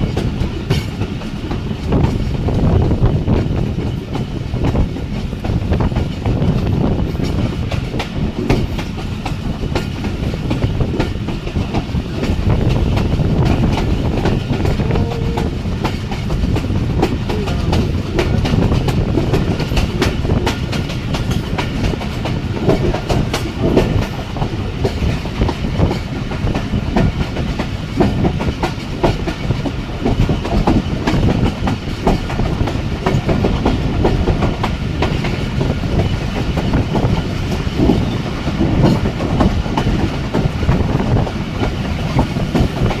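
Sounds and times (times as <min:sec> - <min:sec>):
train rumbling: 0:00.0 - 0:43.0
wheels clicking over rail joints: 0:00.0 - 0:43.0.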